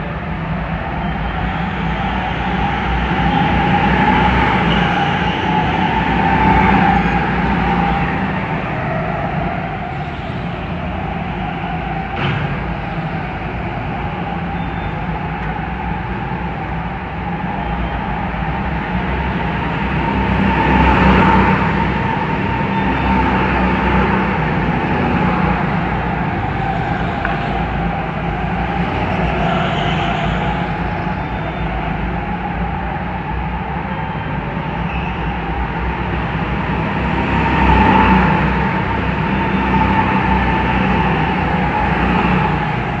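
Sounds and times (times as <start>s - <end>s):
go-kart engine whine: 0.0s - 43.0s.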